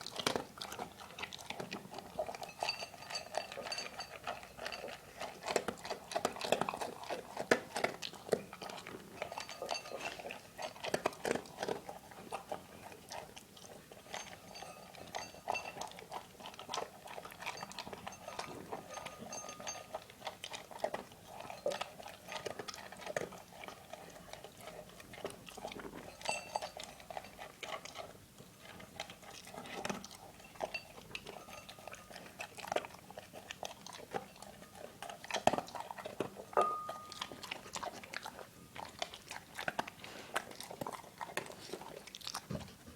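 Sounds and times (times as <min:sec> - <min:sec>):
dog chewing food: 0:00.0 - 0:42.9.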